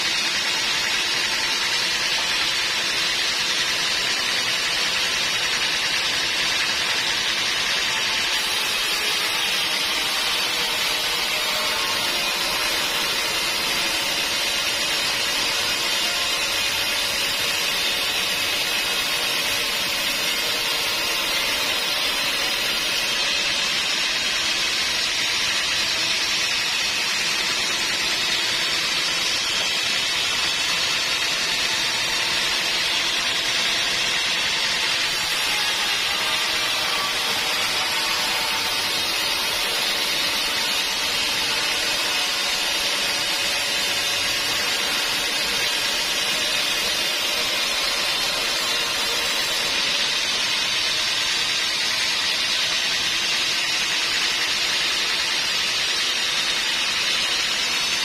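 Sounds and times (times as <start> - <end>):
sawmill saw hissing: 0.0 - 58.0.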